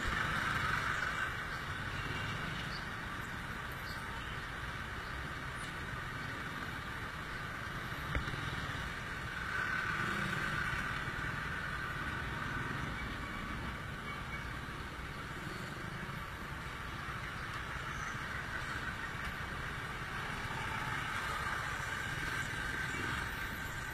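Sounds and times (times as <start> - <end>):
motorcycle engine and road noise: 0.0 - 23.9.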